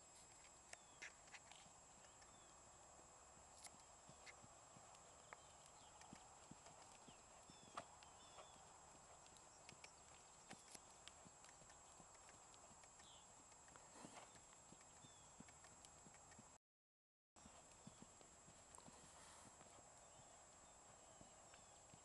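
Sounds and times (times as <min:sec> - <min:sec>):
horse hoofbeats on sand: 0:03.4 - 0:16.5, 0:17.4 - 0:22.0.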